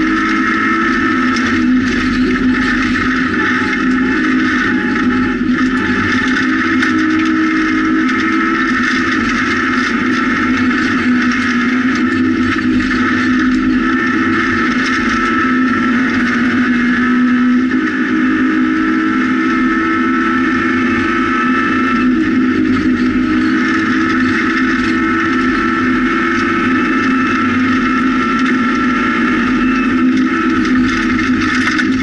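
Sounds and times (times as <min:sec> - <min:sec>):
gravel and tyre noise: 0:00.0 - 0:32.0
rally car engine at high revs: 0:00.0 - 0:32.0.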